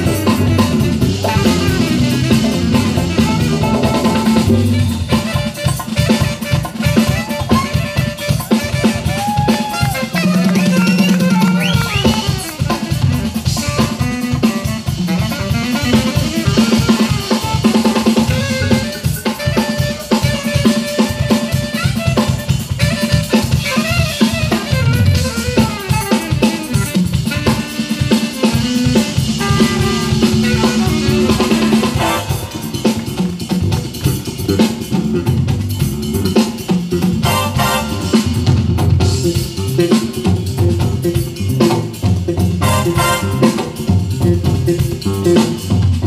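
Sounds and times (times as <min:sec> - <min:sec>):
saxophone melody: 0:00.0 - 0:45.7
drums and congas: 0:00.0 - 0:46.0
electric guitar: 0:00.0 - 0:46.0.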